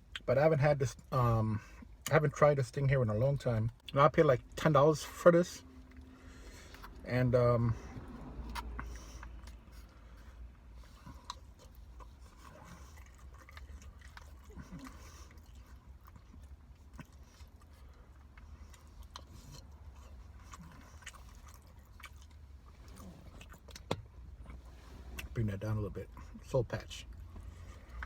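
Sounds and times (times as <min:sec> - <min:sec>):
low steady hum: 0:00.0 - 0:28.0
chewing with mouth clicks: 0:03.6 - 0:25.4, 0:26.1 - 0:28.0.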